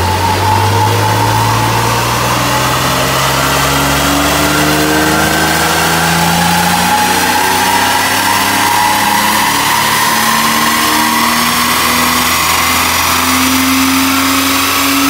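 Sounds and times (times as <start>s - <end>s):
car engine revving under load: 0.0s - 15.0s.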